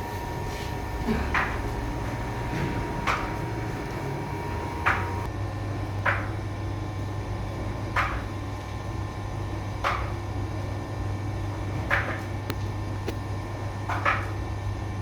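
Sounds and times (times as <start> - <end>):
low equipment hum: 0.0 - 15.0.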